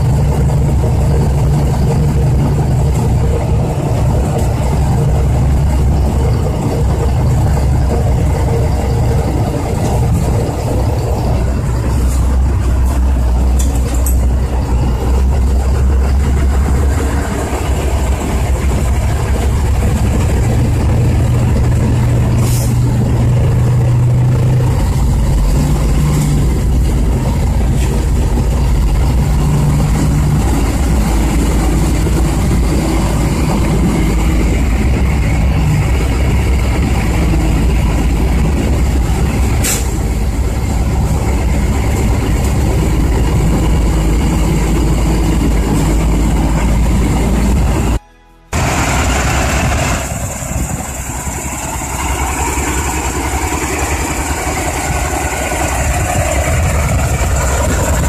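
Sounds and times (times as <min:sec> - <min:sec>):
truck engine drone: 0:00.0 - 0:58.0.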